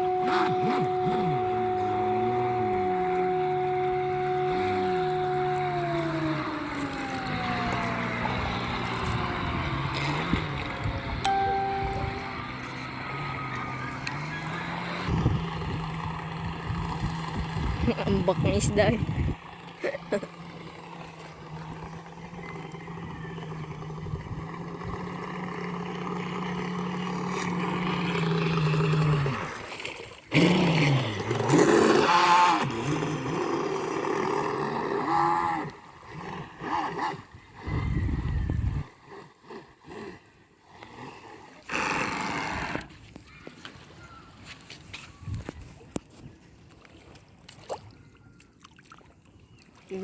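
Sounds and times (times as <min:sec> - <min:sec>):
rc boat motor humming: 0:00.0 - 0:45.4.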